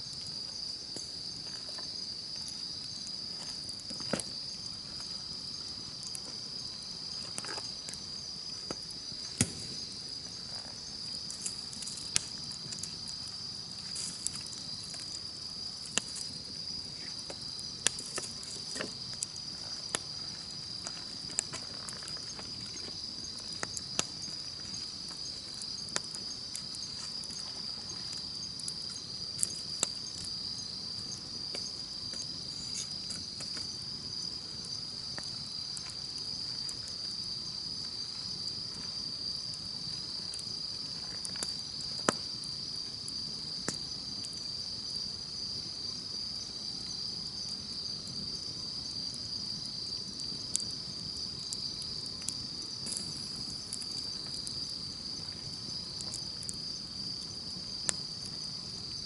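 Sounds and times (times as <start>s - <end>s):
campfire crackling and popping: 0.0s - 59.0s
chorus of insects: 0.0s - 59.0s.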